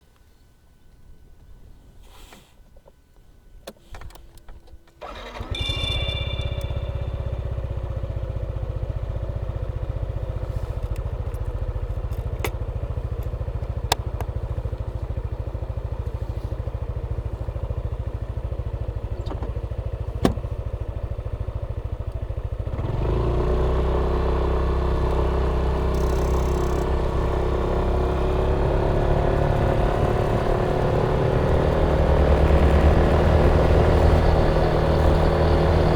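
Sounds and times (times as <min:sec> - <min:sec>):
scooter engine idling and revving: 0:05.0 - 0:35.9.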